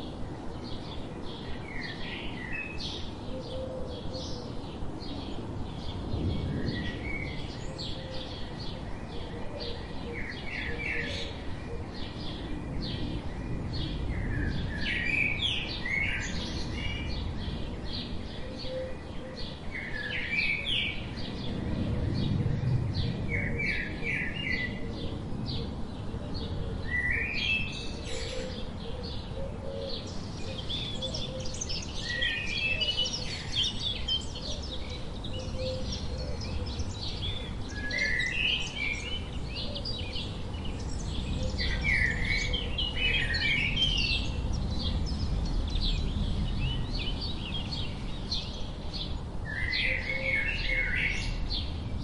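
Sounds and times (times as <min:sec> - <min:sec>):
sparrows chirping: 0:00.0 - 0:52.0.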